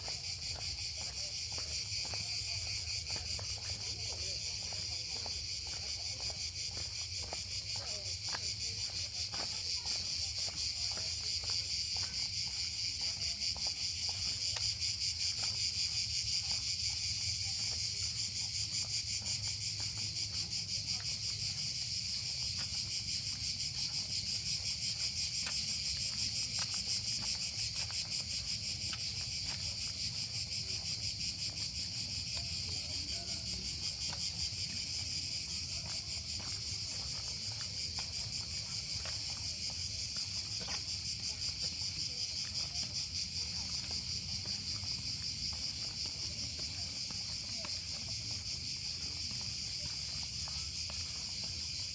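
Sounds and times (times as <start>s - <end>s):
cicadas buzzing: 4.4s - 51.9s.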